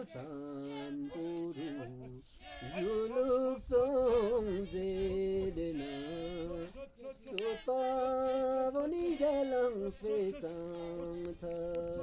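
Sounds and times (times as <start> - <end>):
person singing slow melody: 0.0 - 12.0.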